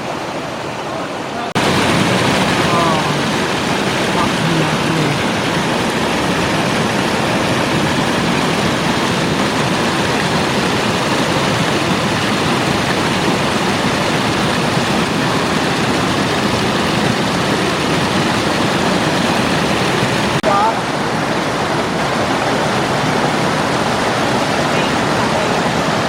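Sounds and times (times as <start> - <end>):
waterfall and river rushing: 0.0 - 26.0.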